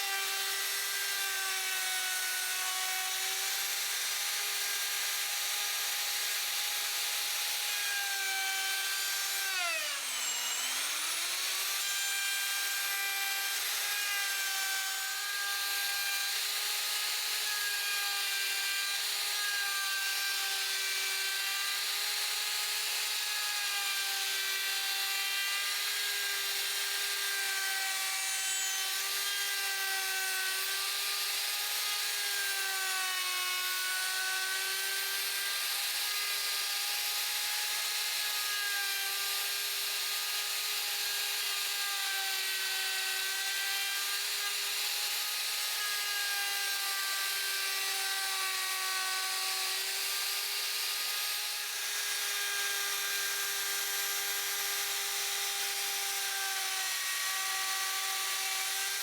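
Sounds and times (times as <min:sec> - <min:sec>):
power tool sanding wood: 0:00.0 - 0:59.0.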